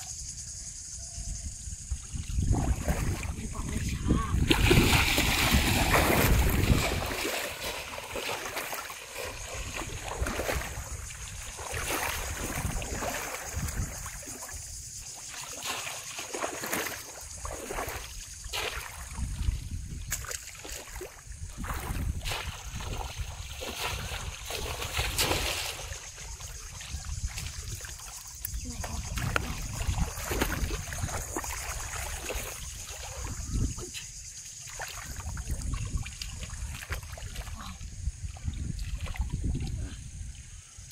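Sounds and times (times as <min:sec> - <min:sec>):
water splashing from wading: 0:01.9 - 0:40.5.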